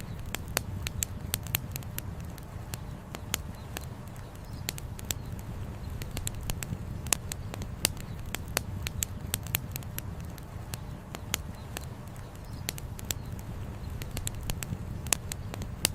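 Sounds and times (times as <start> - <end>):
campfire crackling and popping: 0.0 - 15.9.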